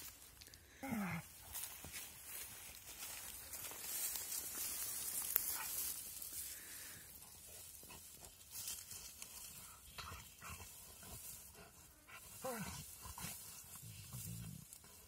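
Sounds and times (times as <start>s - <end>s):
dry grass rustling: 0.0s - 15.0s
dogs scratching soil: 2.4s - 15.0s.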